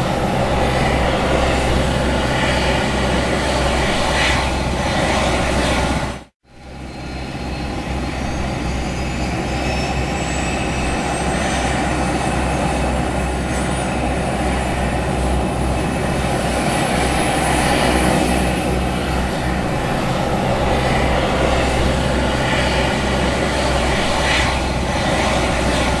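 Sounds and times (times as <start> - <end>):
helicopter turbine and rotor noise: 0.0 - 26.0
turbine whine climbing: 0.0 - 26.0.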